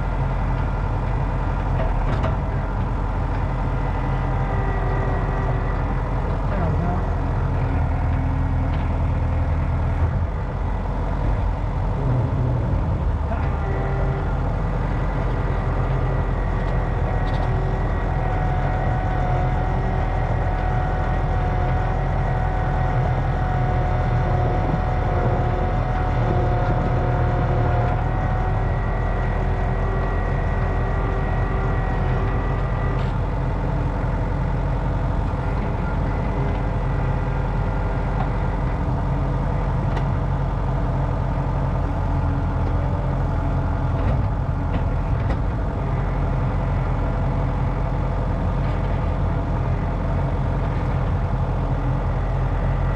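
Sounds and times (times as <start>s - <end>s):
sawmill engine running: 0.0s - 52.9s.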